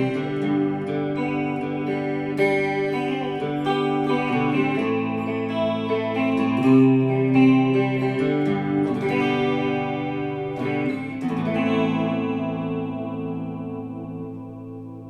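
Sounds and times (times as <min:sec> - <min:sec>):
electric guitar chords with chorus: 0:00.0 - 0:15.0.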